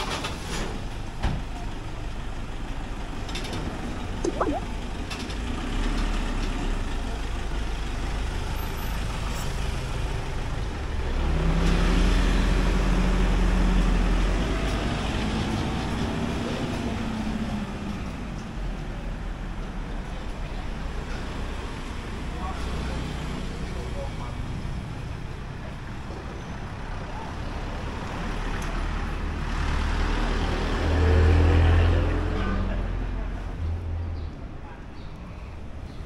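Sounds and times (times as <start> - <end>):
road traffic noise: 4.8 - 36.0.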